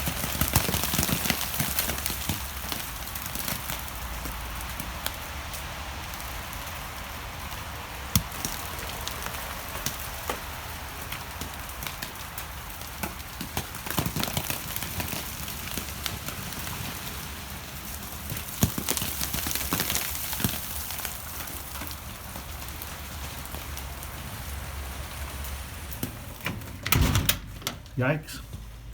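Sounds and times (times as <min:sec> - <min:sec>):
meltwater dripping and trickling: 0:00.0 - 0:26.4.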